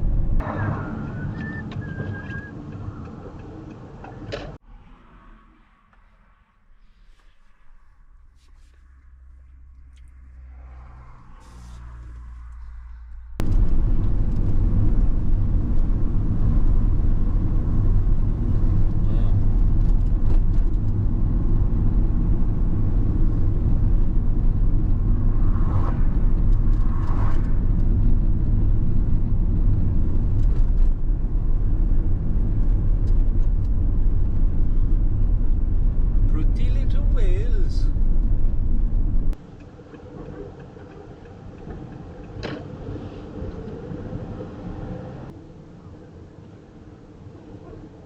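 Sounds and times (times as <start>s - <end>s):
engine and road noise rumble: 0.0s - 48.0s.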